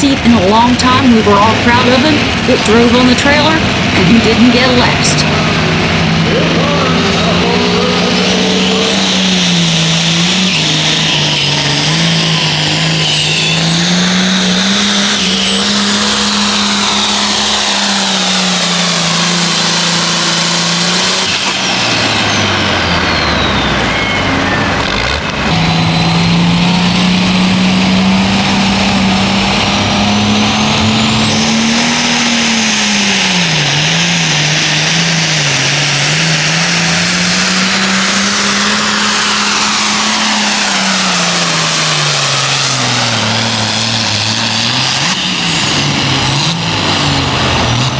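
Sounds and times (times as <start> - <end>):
high whine: 0.0 - 47.9
tractor engine at full throttle: 0.0 - 47.9.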